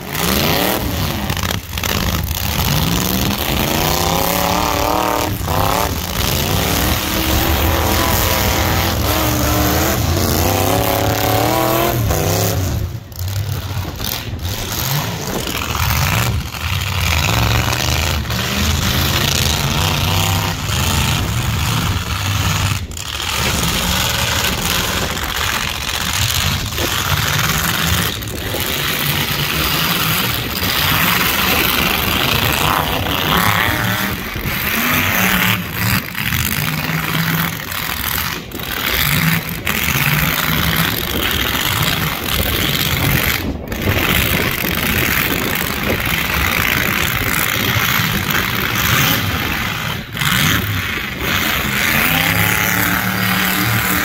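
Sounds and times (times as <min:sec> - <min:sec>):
pickup truck engines revving: 0:00.0 - 0:54.0.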